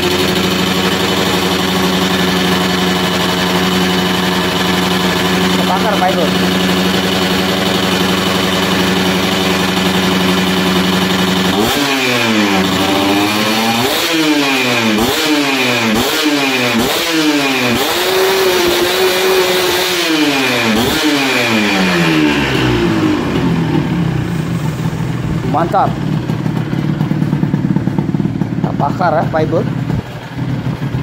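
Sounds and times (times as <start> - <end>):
two-stroke engine idling and revving: 0.0 - 31.0.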